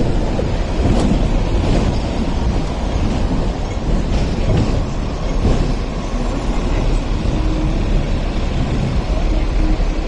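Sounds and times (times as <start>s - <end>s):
tram wheels rumbling on track: 0.0s - 10.0s.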